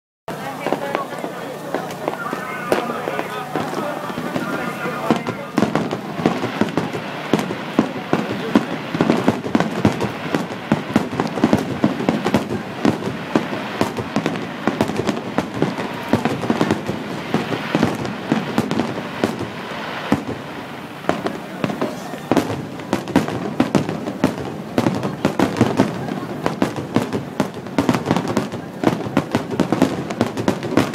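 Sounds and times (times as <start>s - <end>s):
fireworks bangs and crackles: 0.3s - 30.9s.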